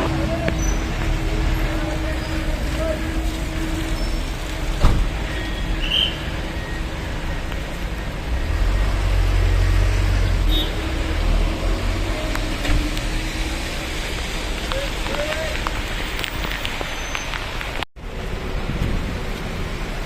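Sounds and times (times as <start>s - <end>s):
heavy vehicle low rumble: 0.0s - 20.0s
road traffic passing: 0.0s - 20.0s.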